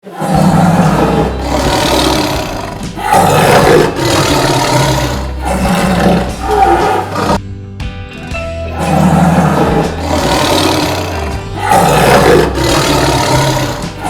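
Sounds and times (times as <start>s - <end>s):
tiger roaring: 0.0s - 7.4s, 8.7s - 14.0s.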